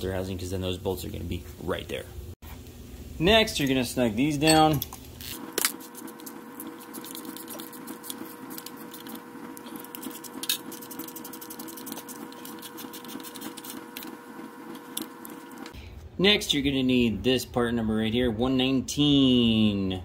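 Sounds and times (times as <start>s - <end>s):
background hum: 0.0s - 20.0s.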